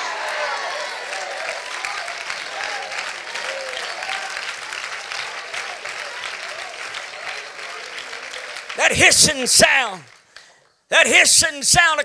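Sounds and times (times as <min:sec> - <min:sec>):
congregation clapping: 0:00.0 - 0:12.0.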